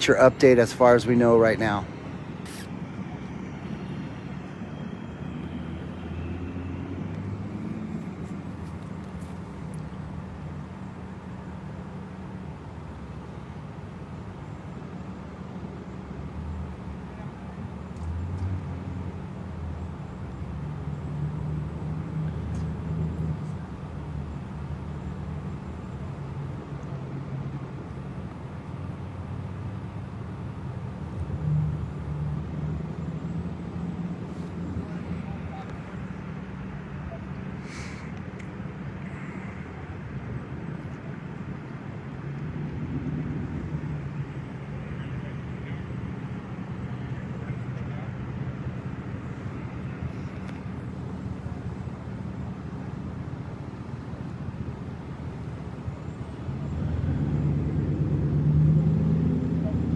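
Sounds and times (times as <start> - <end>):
road traffic noise: 0.0 - 59.9
vehicle engines rumbling: 0.0 - 59.9.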